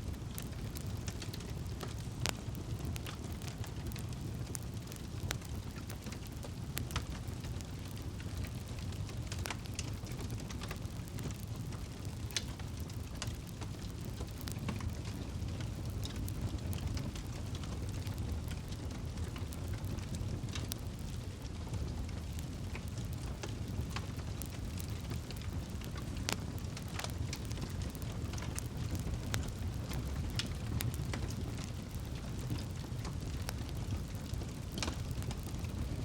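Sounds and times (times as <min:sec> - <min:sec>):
low rumble of flames: 0:00.0 - 0:36.0
burning wood popping: 0:00.1 - 0:36.0.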